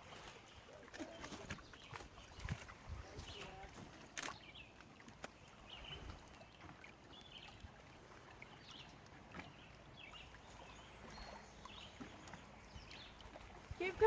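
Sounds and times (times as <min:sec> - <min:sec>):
faint outdoor ambience by water: 0:00.0 - 0:14.0.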